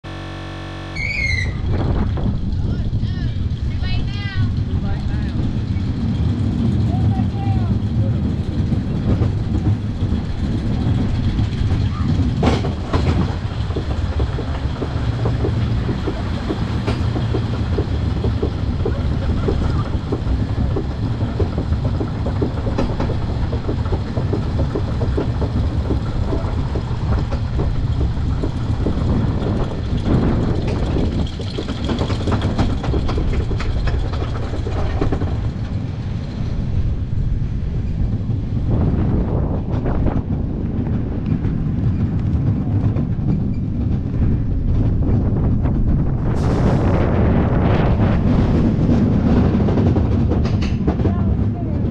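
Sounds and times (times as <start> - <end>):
roller coaster train rumbling: 0.0 - 51.9
rapid clacking on track: 1.6 - 51.9.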